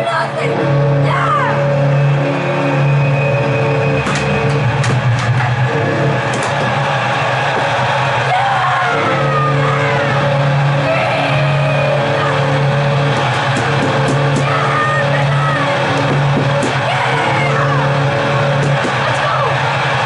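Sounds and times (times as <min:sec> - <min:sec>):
recorded arena crowd with music: 0:00.0 - 0:20.0.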